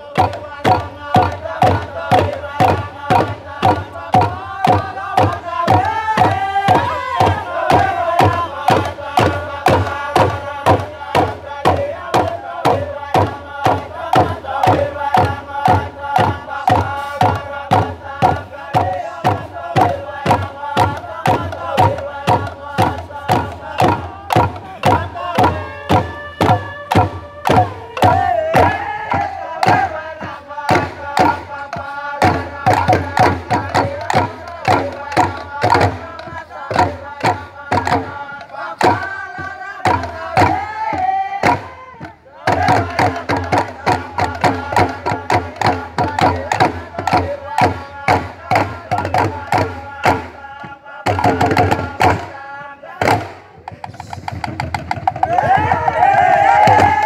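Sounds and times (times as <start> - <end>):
men chanting: 0.0 - 57.0
steady percussion beat: 0.0 - 57.0.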